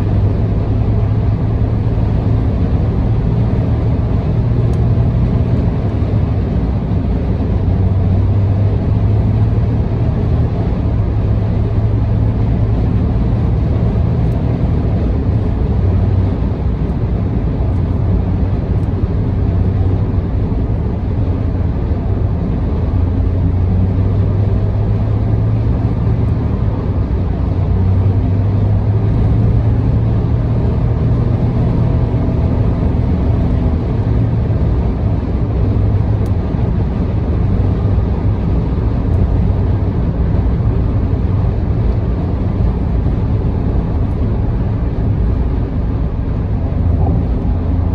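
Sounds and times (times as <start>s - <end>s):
low engine hum: 0.0s - 47.9s
road and tyre noise: 0.0s - 47.9s.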